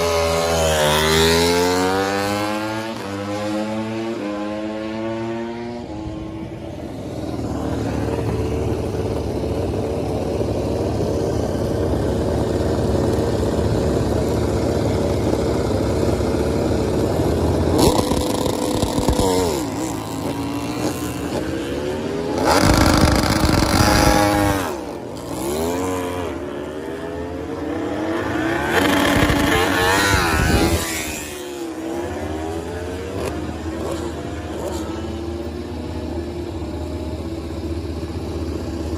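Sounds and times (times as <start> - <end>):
racing motorcycles passing by: 0.0 - 38.9.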